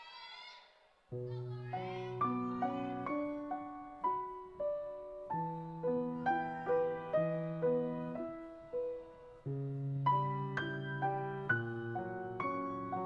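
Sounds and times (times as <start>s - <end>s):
slow solo piano music: 1.2s - 13.0s.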